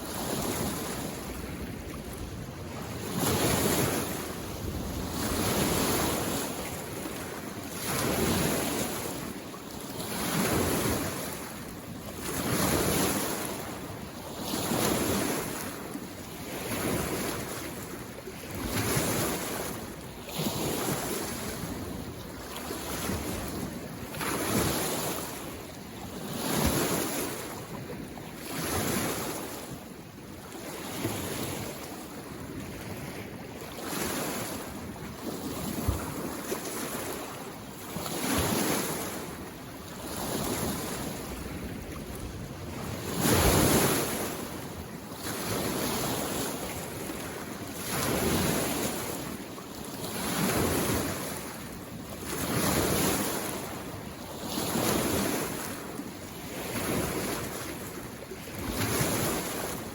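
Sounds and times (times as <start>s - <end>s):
small lake waves washing ashore: 0.0s - 59.9s.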